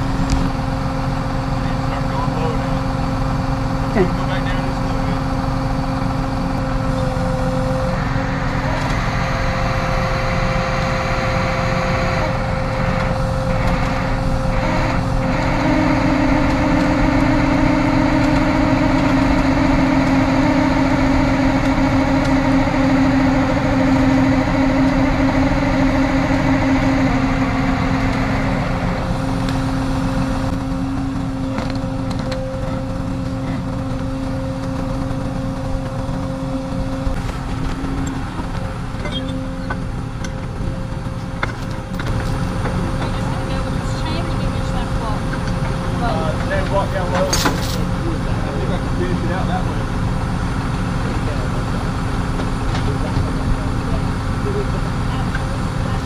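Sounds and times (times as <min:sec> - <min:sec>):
constant mechanical whine: 0:00.0 - 0:56.0
truck engine rumble: 0:00.0 - 0:56.0.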